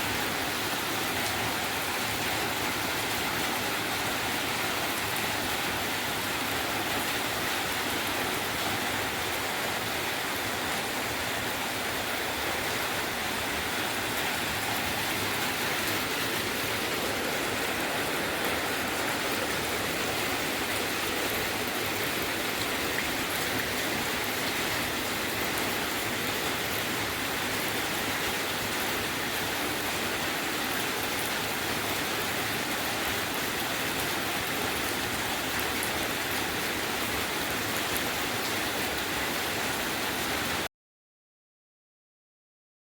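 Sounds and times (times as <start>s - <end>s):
rain falling steadily: 0.0s - 40.7s.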